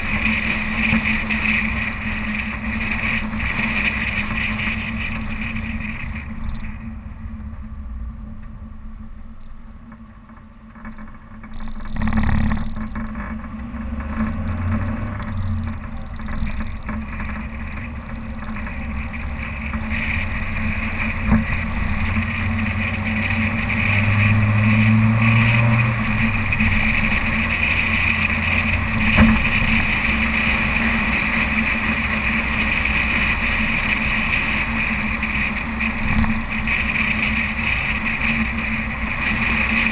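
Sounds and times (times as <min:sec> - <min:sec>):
car engine revving off-road: 0:00.0 - 0:39.9.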